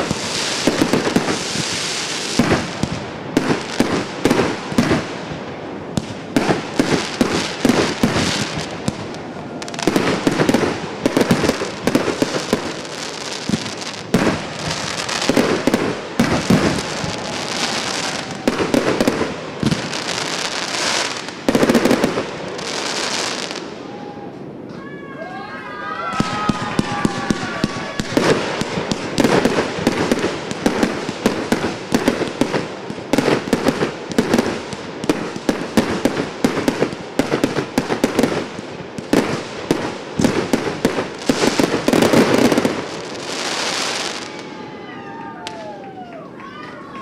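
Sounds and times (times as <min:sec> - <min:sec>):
firework sharp bangs: 0:00.0 - 0:23.7, 0:26.1 - 0:44.4
firework crackling: 0:00.0 - 0:24.2, 0:26.0 - 0:46.1.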